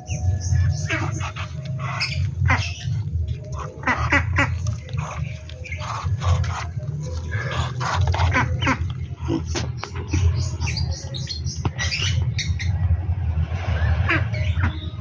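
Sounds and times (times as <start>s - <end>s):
ducklings peeping: 0.0s - 15.0s
low hum: 0.0s - 15.0s.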